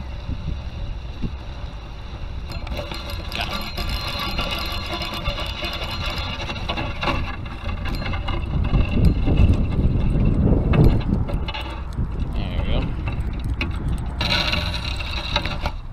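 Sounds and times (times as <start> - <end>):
wind on microphone: 0.0 - 2.5, 3.4 - 15.9.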